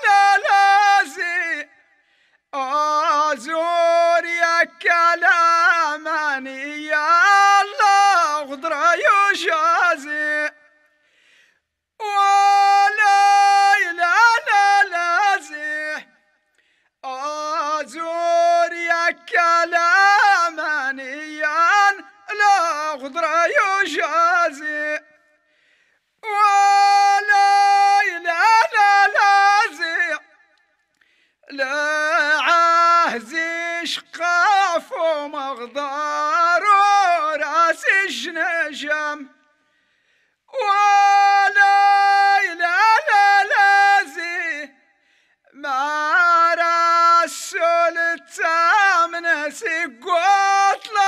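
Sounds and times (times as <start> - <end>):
man singing unaccompanied: 0.0 - 1.9, 2.5 - 10.7, 12.0 - 16.2, 17.0 - 25.2, 26.2 - 30.5, 31.4 - 39.5, 40.5 - 44.9, 45.5 - 51.0.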